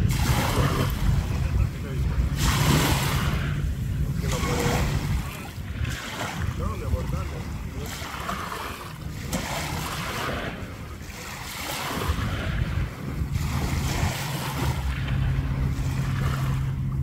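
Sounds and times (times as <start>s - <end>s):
small waves lapping on beach: 0.0s - 17.0s
steady low hum: 0.0s - 17.0s.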